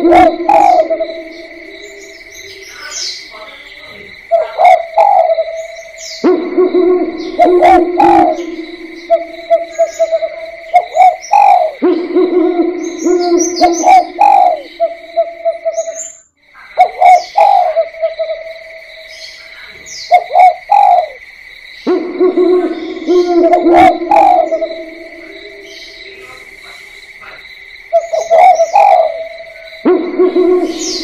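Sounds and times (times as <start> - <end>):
steady high ringing tone: 0.0 - 16.2, 17.0 - 31.0
doves cooing: 0.0 - 31.0
small birds chirping: 0.5 - 6.4, 7.2 - 12.1, 12.8 - 22.0, 22.6 - 29.9.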